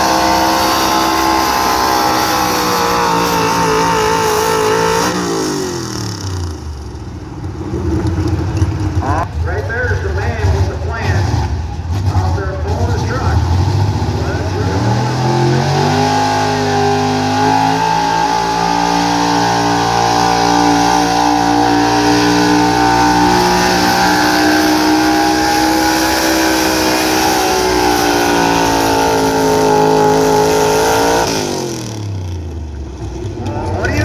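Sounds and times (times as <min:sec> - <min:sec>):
truck engine at high revs: 0:00.0 - 0:34.0.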